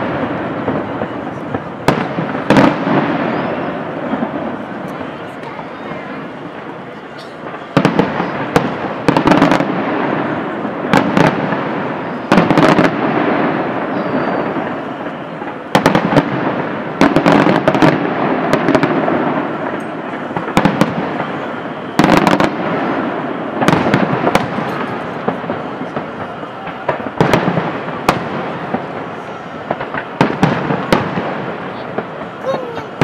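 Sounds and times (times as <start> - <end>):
fireworks crackling: 0.0 - 33.0.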